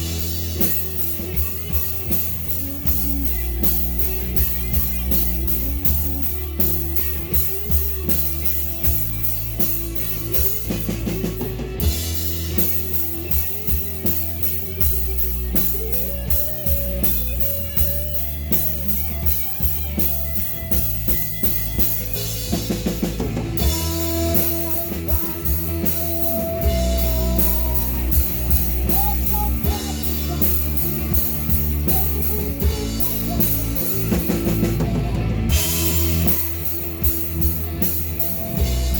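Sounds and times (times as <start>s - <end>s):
drum kit beating: 0.0s - 38.9s
live rock band: 0.0s - 38.9s.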